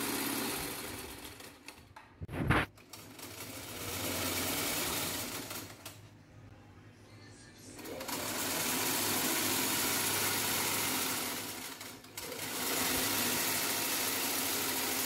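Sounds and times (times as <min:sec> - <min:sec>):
sewing machine running: 0:00.0 - 0:01.8, 0:02.8 - 0:06.0, 0:07.8 - 0:15.0.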